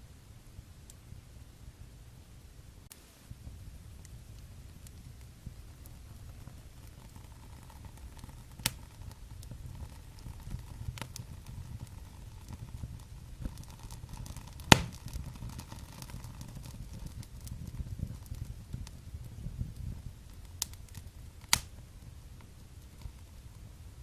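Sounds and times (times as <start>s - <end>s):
wood fire crackling: 0.2s - 2.0s, 2.6s - 24.0s
fire popping loudly: 2.9s - 24.0s.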